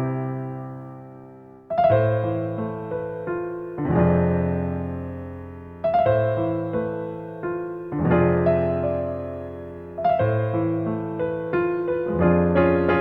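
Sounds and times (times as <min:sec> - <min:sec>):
slow calm piano music: 0:00.0 - 0:13.0.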